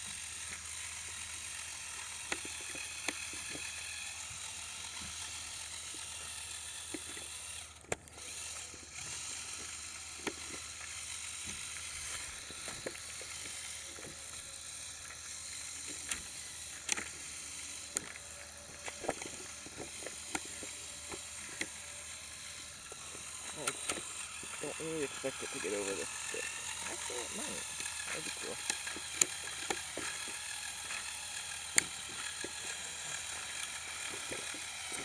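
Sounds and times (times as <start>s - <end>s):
electric motors and gears whirring: 0.0s - 35.0s.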